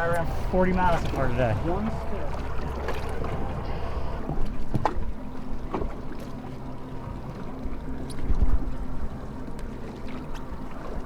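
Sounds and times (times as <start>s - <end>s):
outboard motor idling: 0.0s - 11.0s
water noise: 0.0s - 11.0s.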